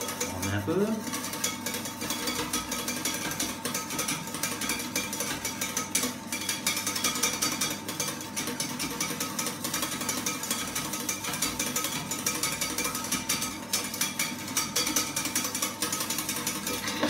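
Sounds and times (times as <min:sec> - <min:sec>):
whisk clattering against metal pan: 0:00.0 - 0:17.0.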